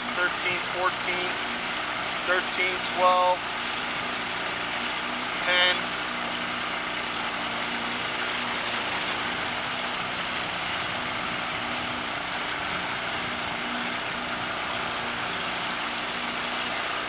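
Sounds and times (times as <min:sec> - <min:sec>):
outboard motor running steadily: 0:00.0 - 0:17.0.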